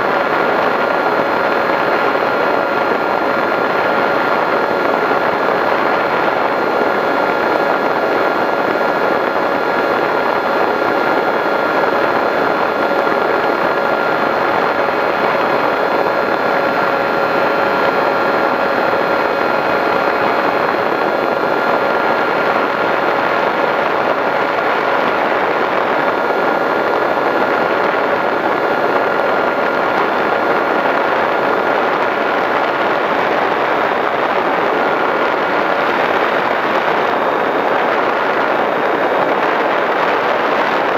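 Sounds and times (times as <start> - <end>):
electric motor and propeller: 0.0 - 40.9
rush of air: 0.0 - 40.9.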